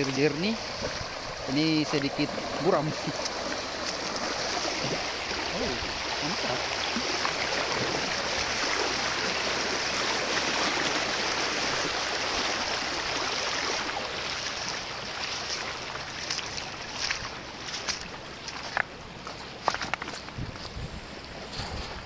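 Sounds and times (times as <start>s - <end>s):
footsteps on river cobbles: 0.0s - 22.0s
river running over stones: 0.0s - 22.0s.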